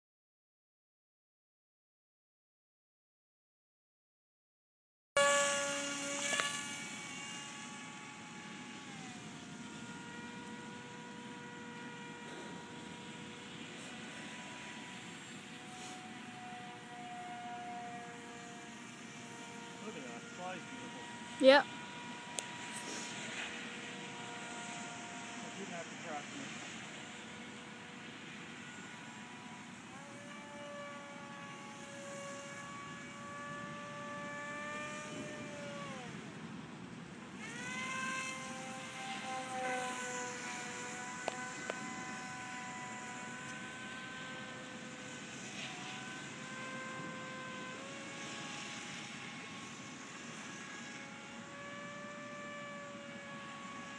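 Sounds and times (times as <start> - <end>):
model airplane motor whining: 5.2 - 53.9.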